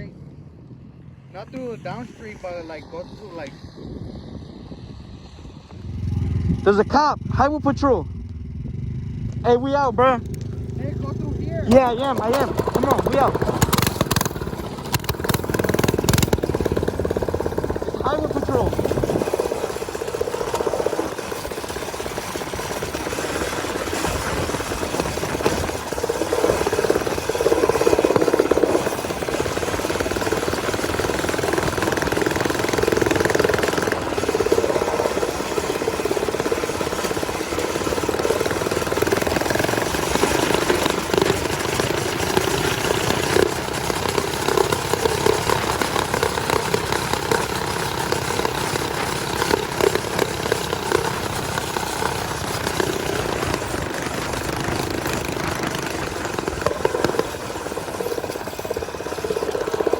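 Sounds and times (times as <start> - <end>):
motorbike engine running: 5.6 - 59.9.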